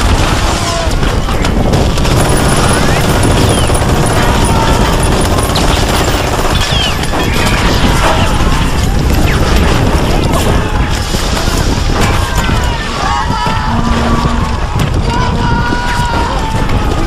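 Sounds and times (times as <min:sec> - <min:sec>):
wind rushing on microphone: 0:00.0 - 0:05.5, 0:06.4 - 0:17.0.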